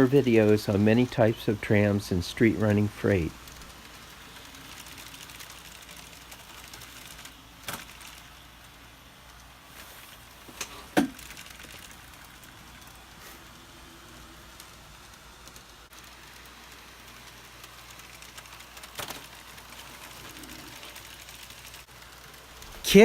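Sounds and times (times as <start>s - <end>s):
model trams running: 0.0s - 23.0s
wheels clicking over track joints: 0.0s - 23.0s.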